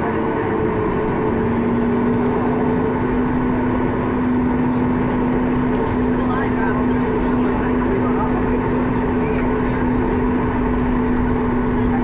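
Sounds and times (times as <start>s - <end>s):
aircraft cabin rumble: 0.0s - 12.0s
steady hum: 0.0s - 12.0s.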